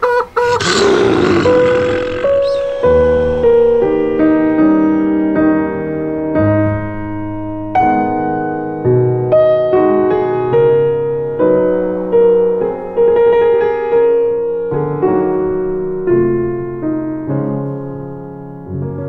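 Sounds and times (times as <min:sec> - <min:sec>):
slow piano chords: 0:00.4 - 0:19.0.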